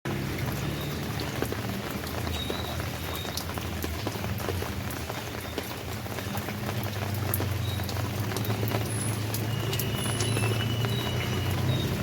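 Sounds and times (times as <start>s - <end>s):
rain falling: 0.1s - 12.0s
raindrops pattering: 0.1s - 12.0s.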